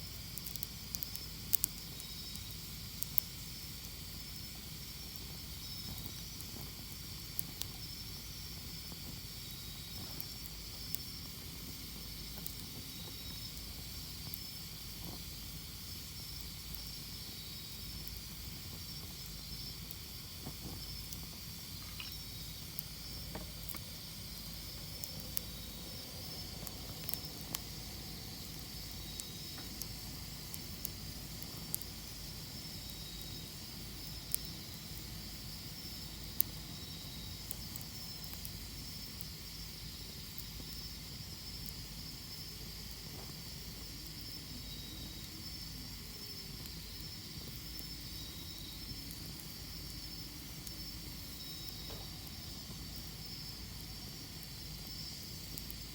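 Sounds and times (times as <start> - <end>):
campfire crackling and popping: 0.1 - 44.4, 45.1 - 55.9.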